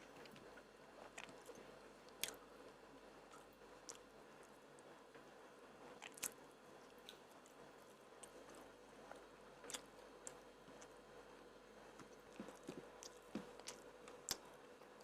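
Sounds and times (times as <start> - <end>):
chewing food: 0.0 - 2.5, 3.2 - 5.2, 5.9 - 11.0, 11.8 - 15.0.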